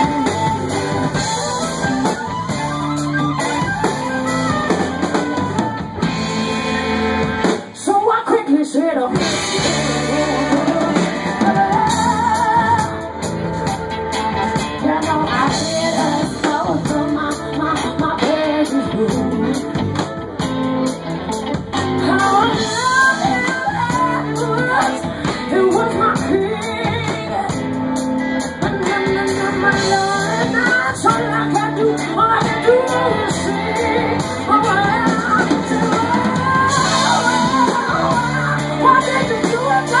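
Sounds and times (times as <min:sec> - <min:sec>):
lead singer singing: 0:00.0 - 0:20.5, 0:21.8 - 0:40.0
rock band playing live: 0:00.0 - 0:40.0.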